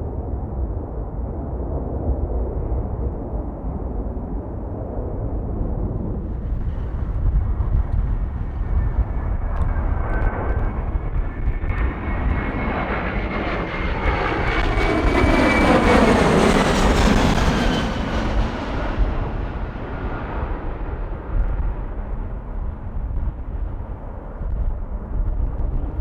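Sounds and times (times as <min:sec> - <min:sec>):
jet airliner passing: 0:00.1 - 0:26.0.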